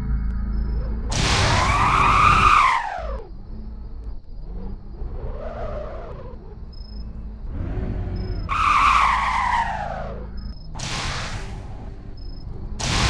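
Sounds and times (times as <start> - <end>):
low engine rumble: 0.0 - 10.8
car tyres squealing: 0.6 - 13.0.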